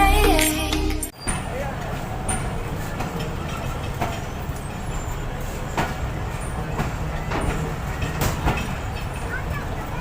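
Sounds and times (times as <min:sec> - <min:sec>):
train rumbling: 0:00.0 - 0:10.0
wheels clanking on rails: 0:00.1 - 0:10.0.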